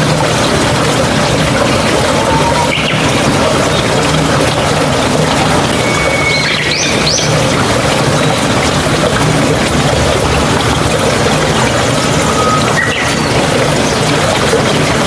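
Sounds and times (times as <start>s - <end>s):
stream water babbling: 0.0s - 15.0s.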